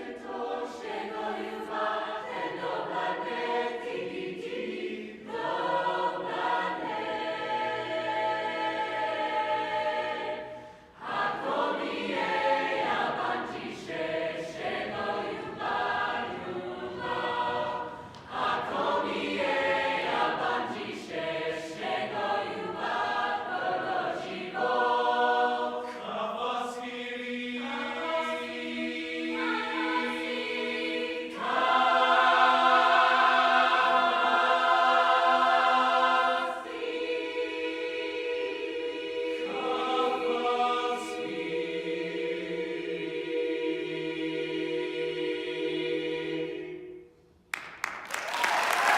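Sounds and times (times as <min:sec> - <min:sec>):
chorus singing a cappella: 0:00.0 - 0:47.4.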